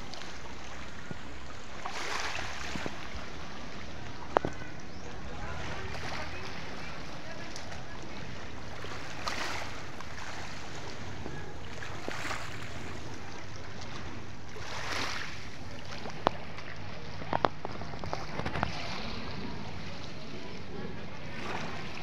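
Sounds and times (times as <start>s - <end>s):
small waves lapping on rocks: 0.0s - 22.0s
steady low rumble: 0.0s - 22.0s.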